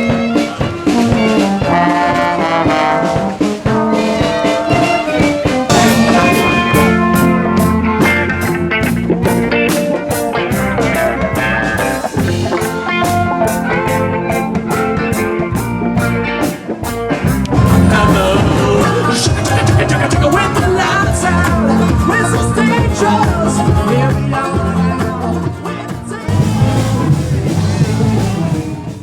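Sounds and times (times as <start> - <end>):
rock music with guitar: 0.0 - 29.0.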